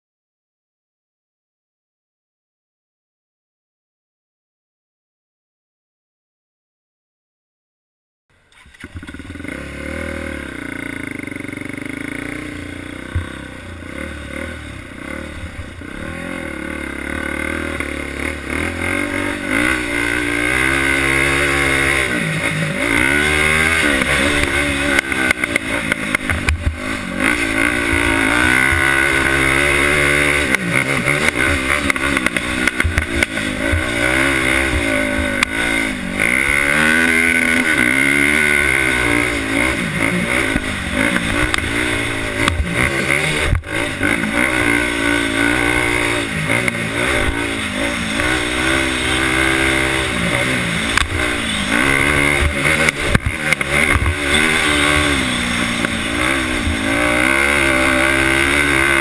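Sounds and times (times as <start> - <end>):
quad engine revving: 8.5 - 59.0.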